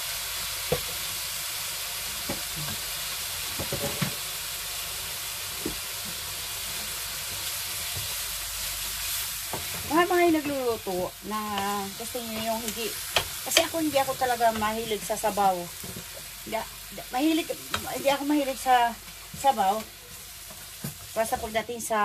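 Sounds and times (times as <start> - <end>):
beef sizzling in hot oil: 0.0 - 22.0.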